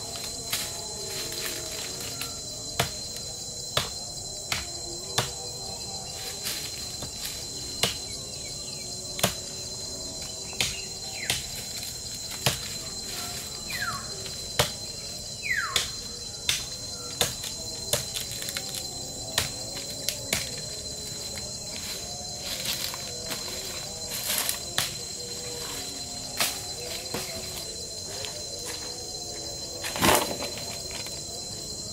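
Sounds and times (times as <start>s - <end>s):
high insect chorus: 0.0s - 31.9s.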